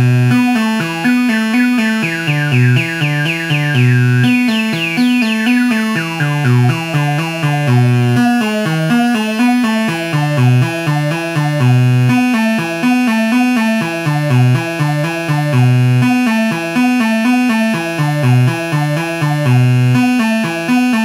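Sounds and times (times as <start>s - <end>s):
synthesizer sequenced bass pattern: 0.0s - 20.0s.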